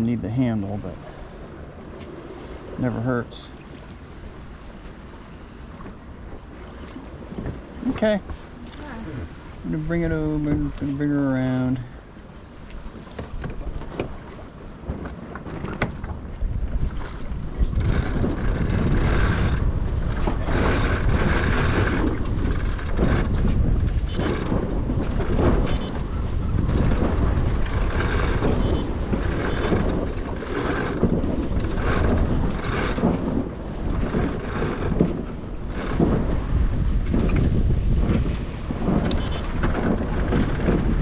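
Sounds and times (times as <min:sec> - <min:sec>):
water rushing along hull: 0:00.0 - 0:41.0
wind buffeting microphone: 0:00.0 - 0:41.0.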